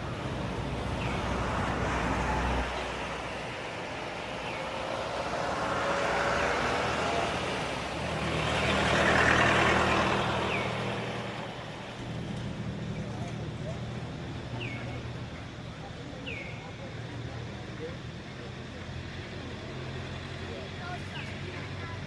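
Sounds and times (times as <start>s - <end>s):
vehicles passing by: 0.0s - 22.0s.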